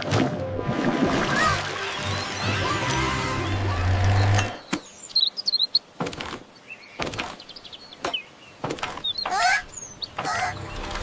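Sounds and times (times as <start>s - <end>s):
songbird chirping: 1.6s - 11.0s.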